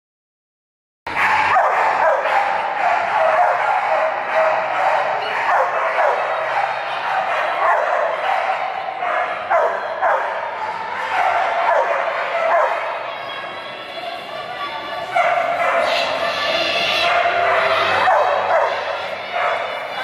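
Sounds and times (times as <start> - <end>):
many dogs barking and yipping: 1.1 - 20.0.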